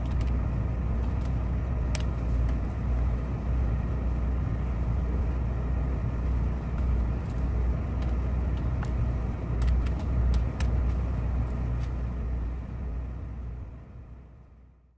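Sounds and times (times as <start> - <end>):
low boat engine rumble: 0.0 - 14.9.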